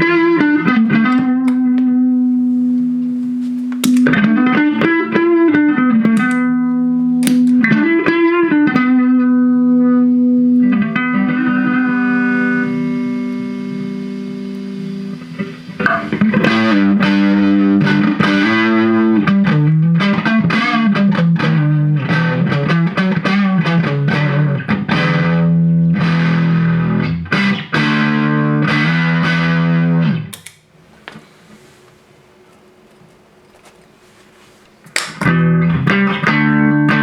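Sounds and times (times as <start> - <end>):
electric guitar chords and notes: 0.0 - 30.4, 35.2 - 37.0.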